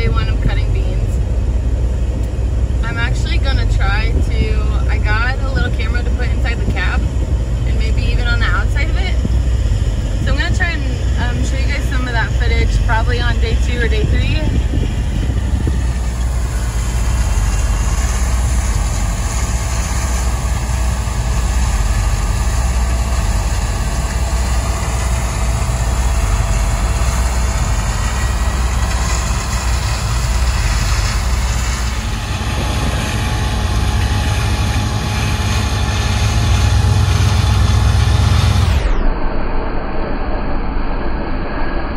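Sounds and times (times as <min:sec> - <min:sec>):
combine harvester cutting: 0:00.0 - 0:39.2
low engine rumble: 0:00.0 - 0:41.9.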